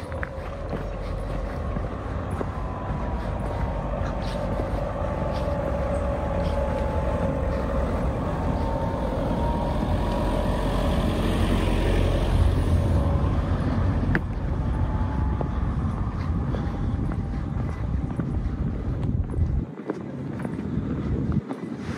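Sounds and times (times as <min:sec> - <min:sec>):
vehicle engine rumbling: 0:00.0 - 0:21.9.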